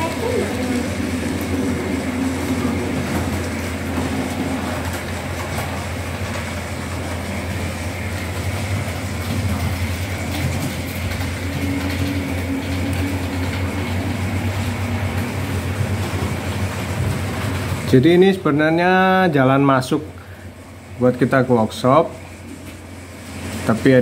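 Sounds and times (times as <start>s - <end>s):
model train running: 0.0s - 24.0s.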